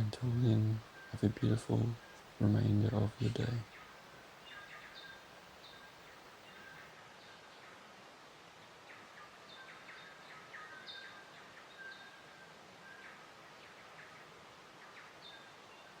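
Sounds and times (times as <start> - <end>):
background hiss: 0.0 - 16.0
birds chirping: 0.0 - 16.0.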